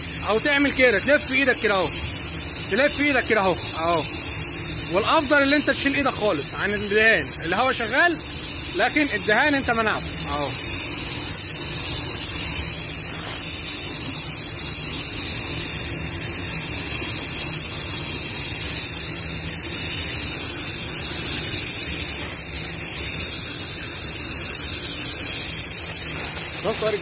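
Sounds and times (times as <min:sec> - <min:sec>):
paint spray gun hissing: 0:00.0 - 0:27.0.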